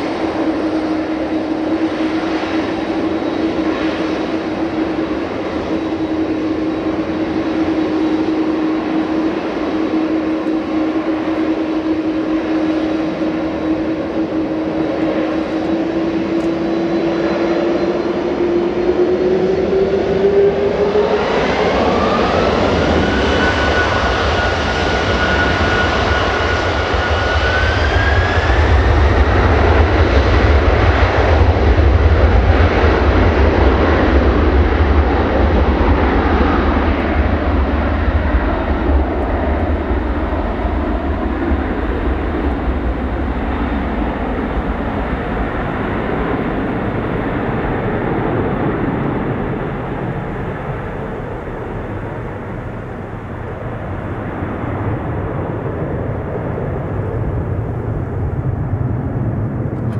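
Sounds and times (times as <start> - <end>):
deep jet rumble: 0.0 - 59.9
jet engine fan whine: 0.0 - 59.9.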